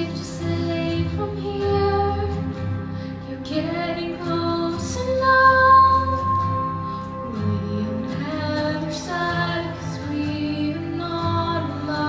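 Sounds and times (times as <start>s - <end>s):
girl singing into microphone: 0.0s - 12.0s
instrumental accompaniment: 2.2s - 11.9s.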